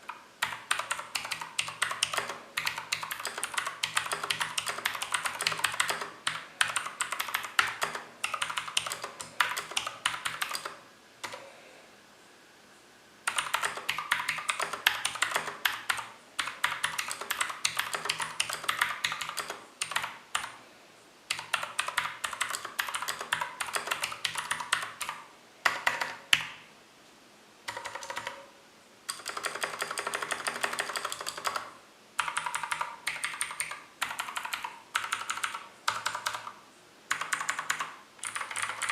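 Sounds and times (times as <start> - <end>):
clicky mechanical keyboard typing: 0.0 - 11.5, 13.3 - 20.6, 21.3 - 26.6, 27.7 - 28.5, 29.1 - 38.9.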